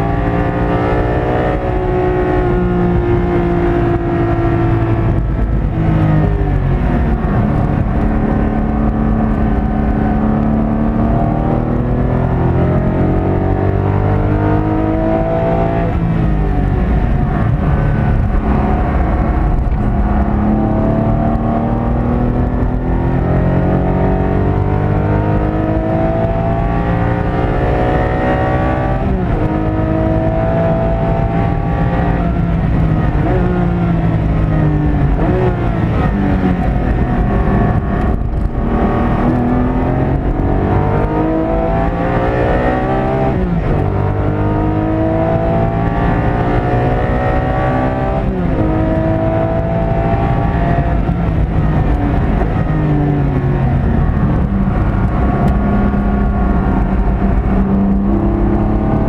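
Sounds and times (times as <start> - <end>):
car engine revving: 0.0 - 59.0
tyre and road noise: 0.0 - 59.0.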